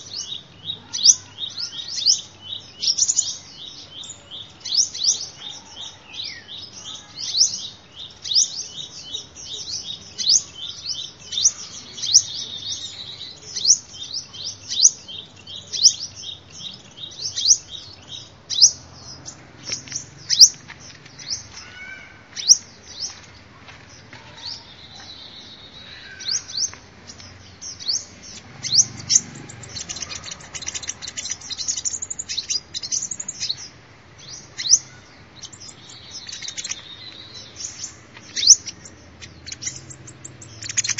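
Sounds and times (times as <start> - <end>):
sunbird high chirps: 0.0 - 23.4, 24.0 - 40.9.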